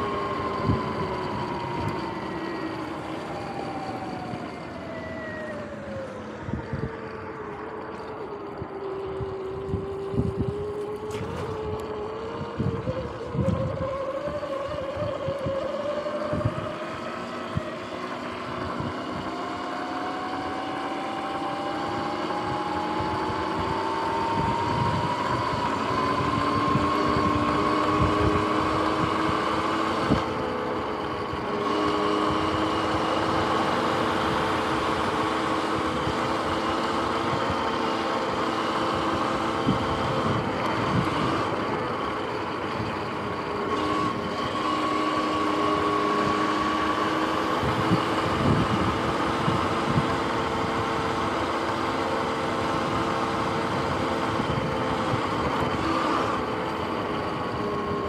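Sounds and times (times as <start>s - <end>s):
electric dirt bike motor whining: 0.0s - 58.0s.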